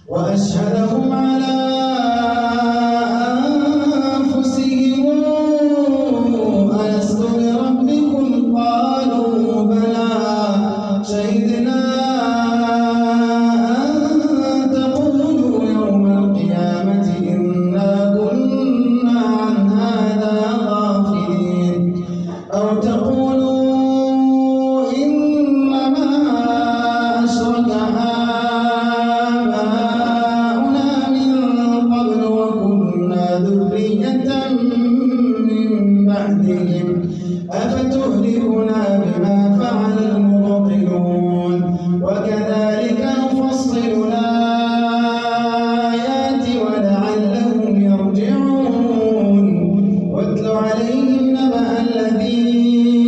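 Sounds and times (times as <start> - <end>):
man chanting melodically: 0.0 - 53.0.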